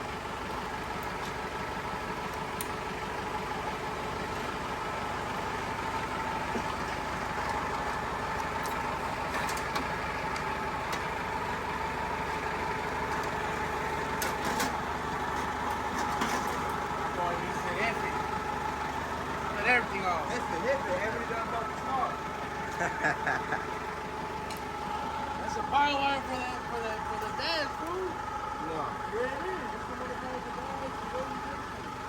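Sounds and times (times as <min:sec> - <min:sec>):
steady motor drone: 0:00.0 - 0:32.0.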